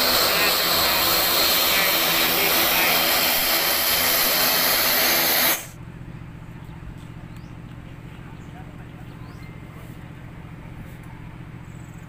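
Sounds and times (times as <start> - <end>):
faint outdoor background: 0.0 - 12.0
turboprop engines running: 0.0 - 12.0.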